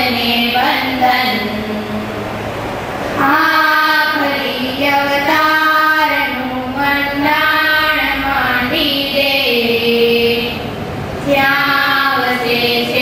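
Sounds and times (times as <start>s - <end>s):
girls singing in unison: 0.0s - 2.3s, 3.2s - 13.0s.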